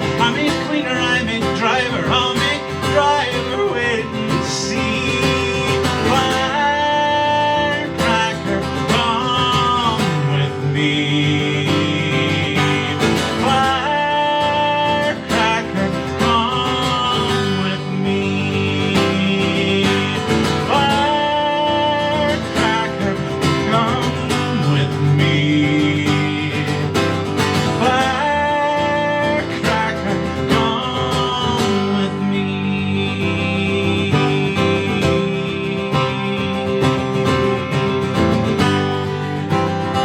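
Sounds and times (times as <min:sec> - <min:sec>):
acoustic guitar bending melody: 0:00.0 - 0:40.0
strummed guitar accompaniment: 0:00.0 - 0:40.0.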